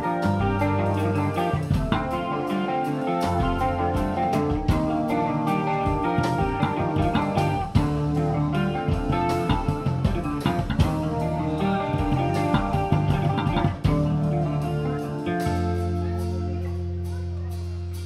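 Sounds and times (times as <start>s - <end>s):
electric guitar: 0.0s - 18.0s
live rock band: 0.0s - 18.0s.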